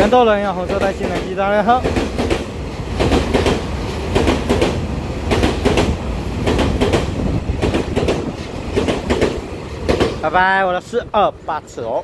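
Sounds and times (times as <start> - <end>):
wheels clacking over rail joints: 0.0 - 10.6
train low rumble: 0.0 - 12.0.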